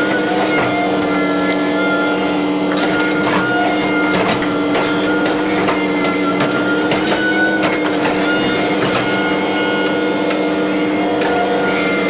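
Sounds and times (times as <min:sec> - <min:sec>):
excavator diesel engine running: 0:00.0 - 0:12.0
high engine whine: 0:00.0 - 0:12.0.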